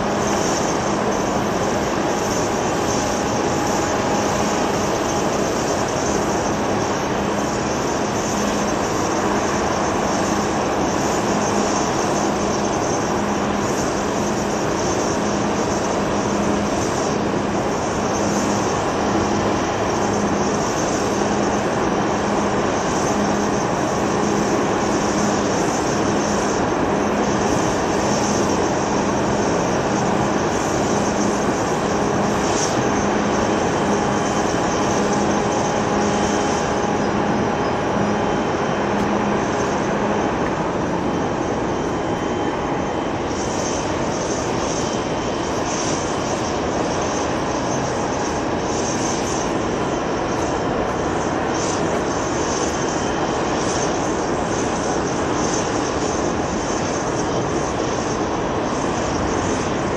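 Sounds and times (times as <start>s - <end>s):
jet engines taxiing: 0.0s - 59.9s.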